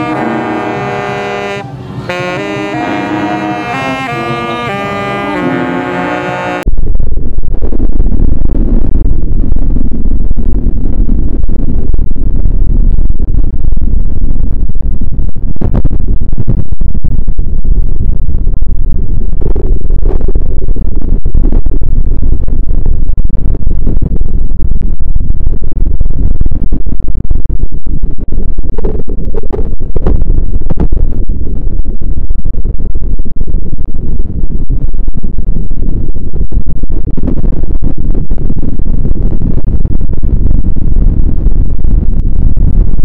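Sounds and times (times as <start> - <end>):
harsh electronic noise: 0.0 - 43.0.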